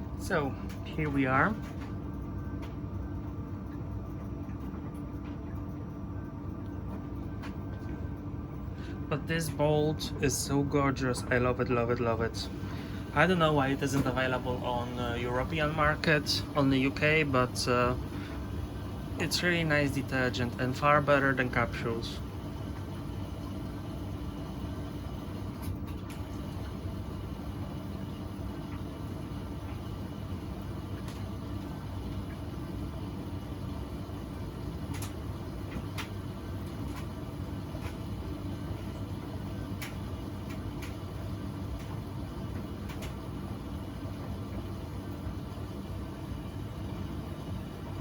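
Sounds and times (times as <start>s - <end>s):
washing machine humming: 0.0s - 48.0s.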